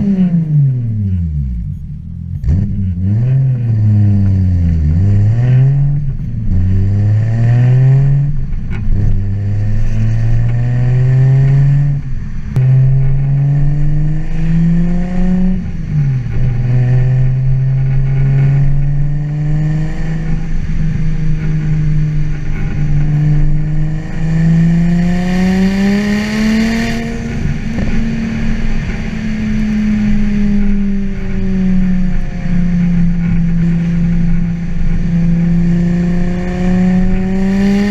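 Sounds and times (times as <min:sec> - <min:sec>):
car engine revving through gears: 0:00.0 - 0:37.9.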